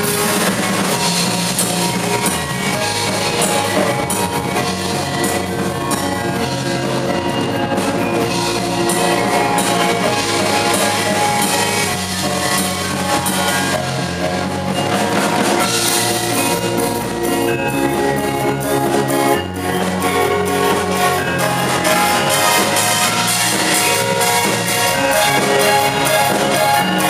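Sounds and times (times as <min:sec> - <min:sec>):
bronze gongs and metallophones: 0:00.0 - 0:27.0
drum kit: 0:00.0 - 0:27.0
electric bass: 0:00.0 - 0:27.0.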